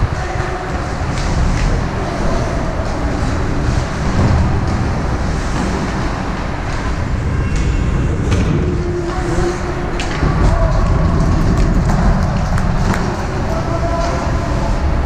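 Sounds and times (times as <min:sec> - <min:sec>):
loud arena rumble: 0:00.0 - 0:15.0.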